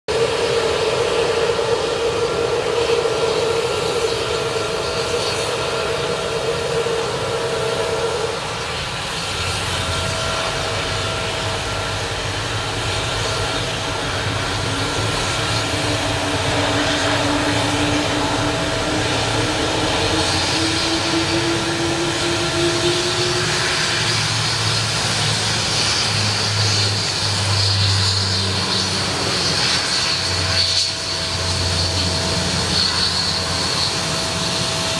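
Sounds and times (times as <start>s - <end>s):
high engine whine: 0.1s - 34.9s
jet engines running: 0.1s - 34.9s.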